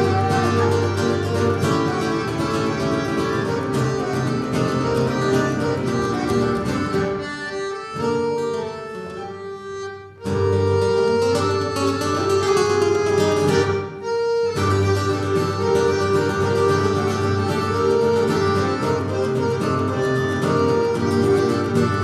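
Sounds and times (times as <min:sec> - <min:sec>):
folk band dance music: 0:00.0 - 0:22.0.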